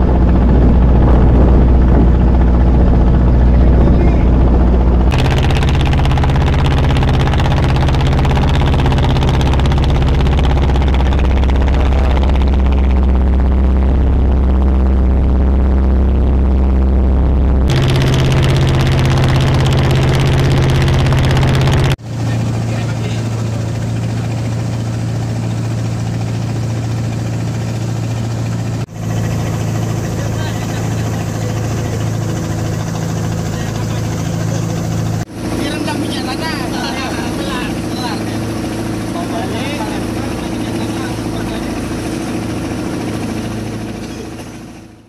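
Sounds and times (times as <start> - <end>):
boat engine running: 0.0 - 45.0.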